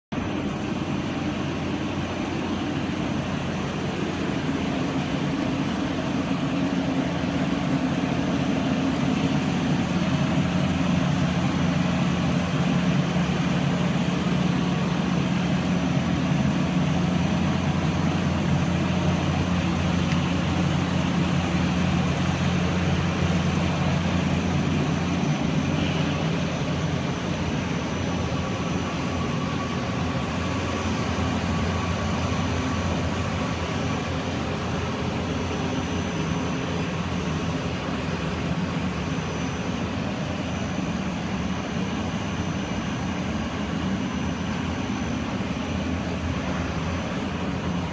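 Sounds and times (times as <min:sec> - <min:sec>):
machinery humming: 0:00.2 - 0:47.9.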